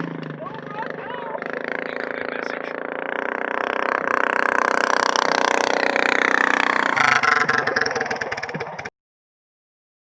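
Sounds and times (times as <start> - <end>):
minibike engine running hard: 0.0 - 8.9.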